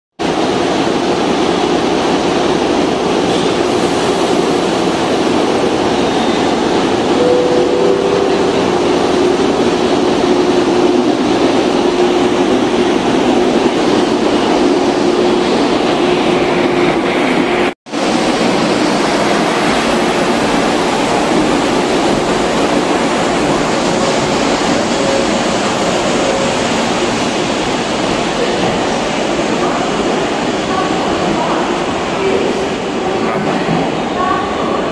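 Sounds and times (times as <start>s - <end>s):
electric train rolling past: 0.2s - 34.9s
faint train hum: 0.2s - 34.9s.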